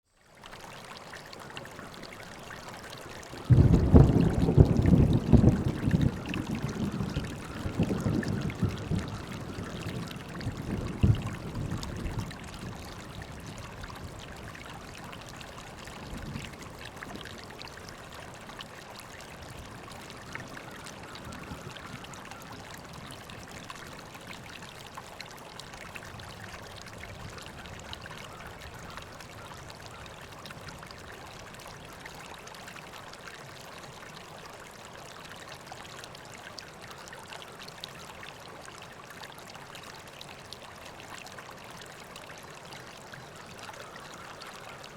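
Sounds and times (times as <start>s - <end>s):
river water flowing: 0.1s - 44.9s.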